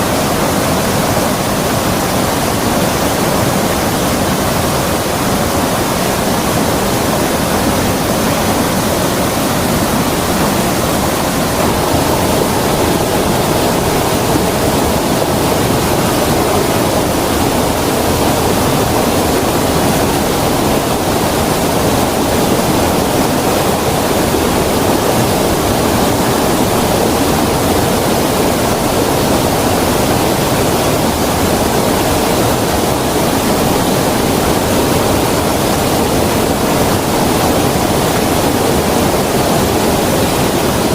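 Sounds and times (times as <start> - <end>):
creek water rushing: 0.0 - 40.9.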